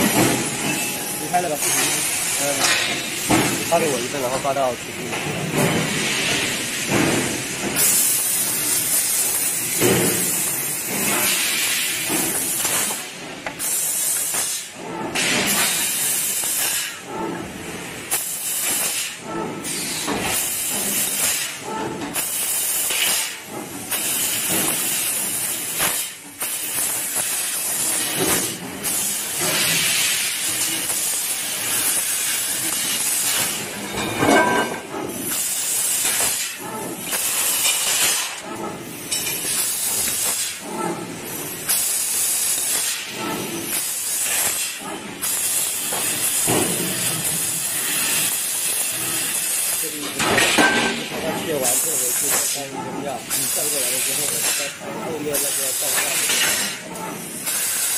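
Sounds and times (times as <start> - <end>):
laser cutter gas hiss: 0.0 - 4.8, 5.9 - 17.0, 18.0 - 57.9.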